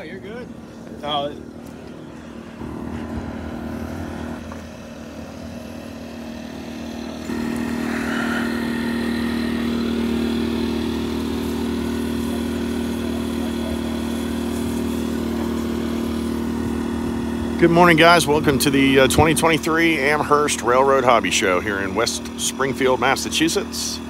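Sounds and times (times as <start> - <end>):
generator engine hum: 0.0 - 24.0.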